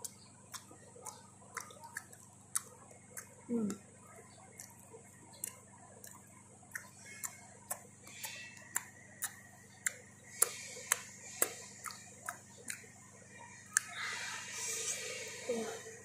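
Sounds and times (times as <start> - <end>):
chewing with mouth clicks: 0.0 - 15.3.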